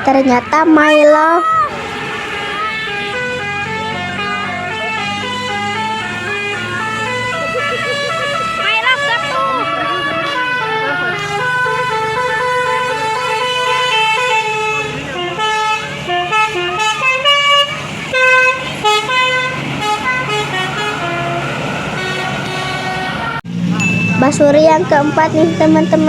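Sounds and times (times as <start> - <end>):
multi-tone bus horn melody: 0.0 - 23.5, 24.1 - 26.0
bus engine: 0.0 - 26.0.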